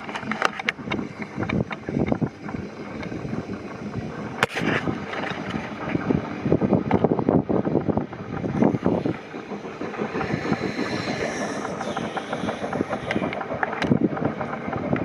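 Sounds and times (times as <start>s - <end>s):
railway carriage rattling on track: 0.0s - 15.0s.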